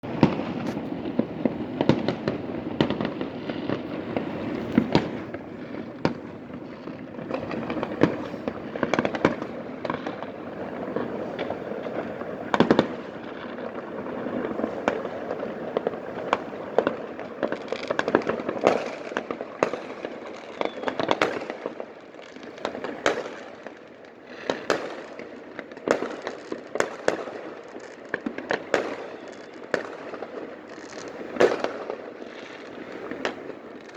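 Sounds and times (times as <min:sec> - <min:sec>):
distant fireworks rumble and crackle: 0:00.0 - 0:33.9
sharp firework pops and bangs: 0:00.0 - 0:33.9.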